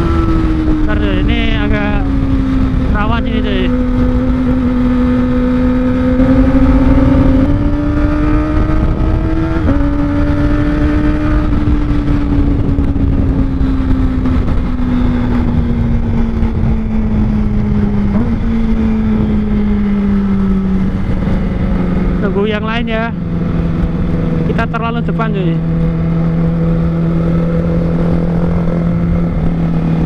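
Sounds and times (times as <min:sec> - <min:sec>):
motorcycle engine at steady throttle: 0:00.0 - 0:30.0
wind and road noise: 0:00.0 - 0:30.0.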